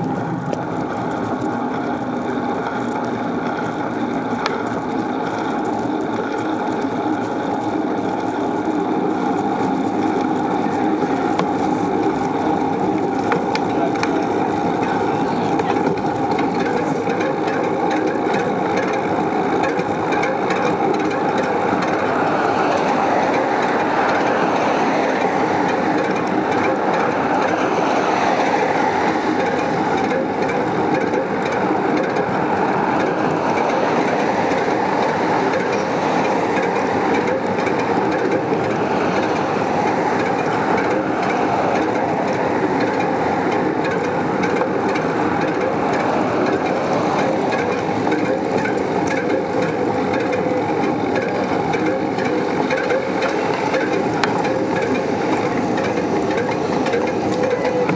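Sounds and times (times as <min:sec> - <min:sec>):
bicycle tyres rolling on road: 0:00.0 - 0:57.9.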